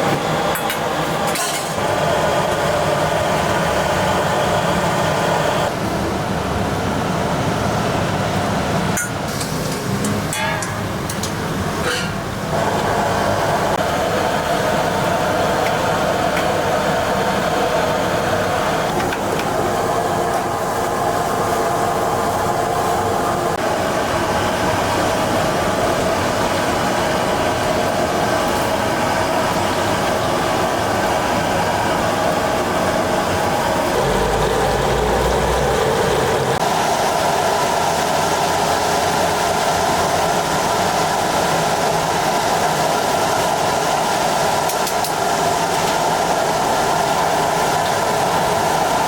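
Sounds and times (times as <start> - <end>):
gas burners and extractor roar: 0.0 - 49.0.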